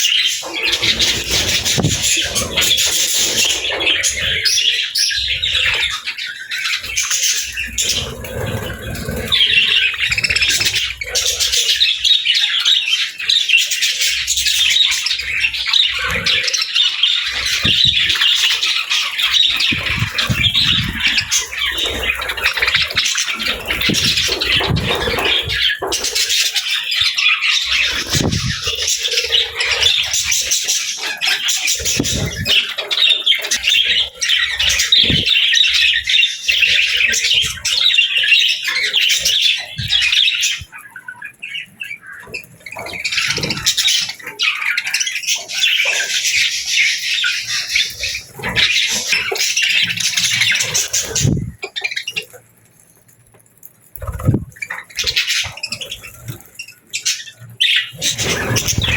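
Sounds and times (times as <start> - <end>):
budgerigars chattering and chirping: 0.0 - 52.4, 53.9 - 58.9.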